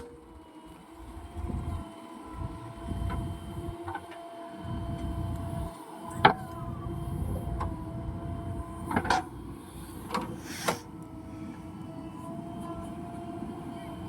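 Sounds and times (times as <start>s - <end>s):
diesel machinery rumbling with whine: 0.0s - 14.0s.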